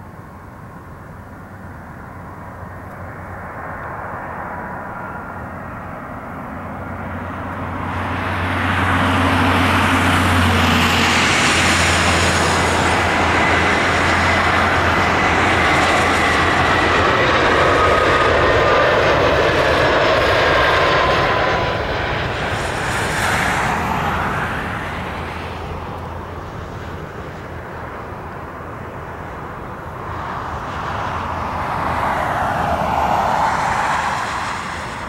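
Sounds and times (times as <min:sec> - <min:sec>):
jet airliner roaring: 0:00.0 - 0:35.0
thin high engine whine: 0:00.0 - 0:35.0.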